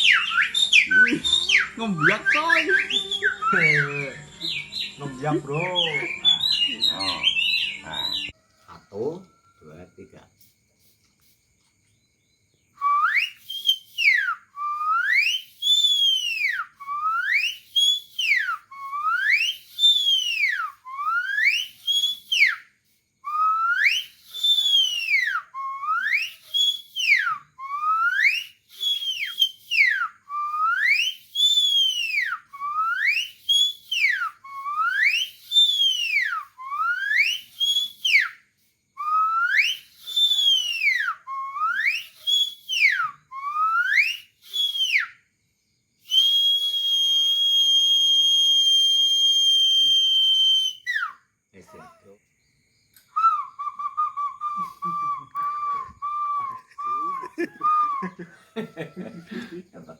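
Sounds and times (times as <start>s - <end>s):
man whistling birdcall: 0.0s - 10.0s, 12.5s - 45.3s, 46.0s - 51.3s, 53.0s - 59.8s.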